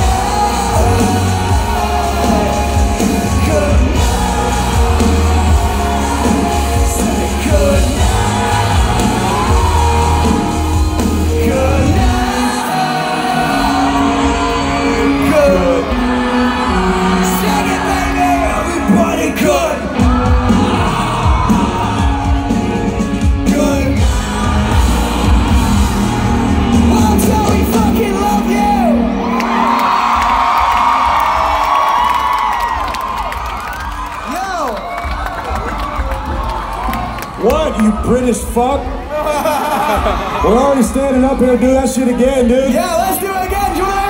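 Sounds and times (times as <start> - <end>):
crowd singing and yelling: 0.0 - 44.0
live rock music: 0.0 - 44.0.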